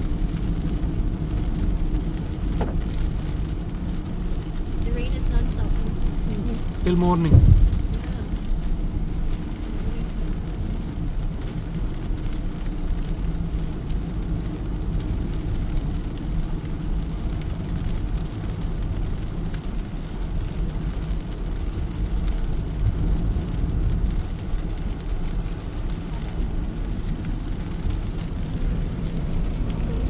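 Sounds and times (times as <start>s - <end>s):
car rumble in motion: 0.0s - 30.0s.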